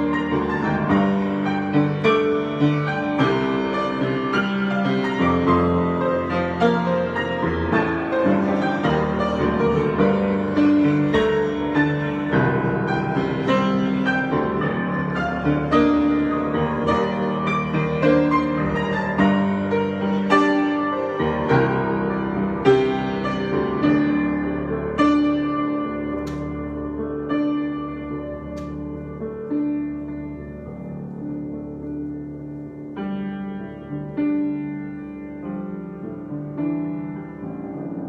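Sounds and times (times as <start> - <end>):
solo piano improvisation: 0.0 - 38.0.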